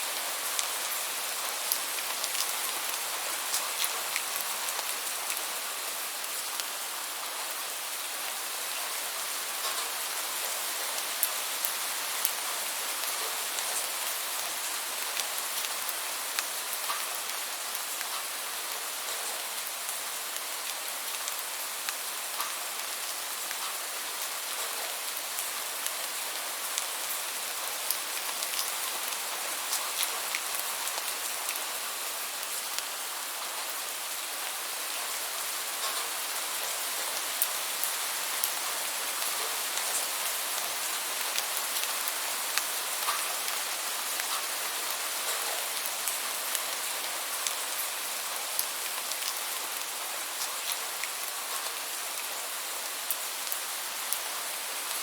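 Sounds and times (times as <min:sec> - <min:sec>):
steady rain hiss: 0:00.0 - 0:55.0
raindrops pattering: 0:00.1 - 0:07.5, 0:08.2 - 0:32.9, 0:34.5 - 0:55.0.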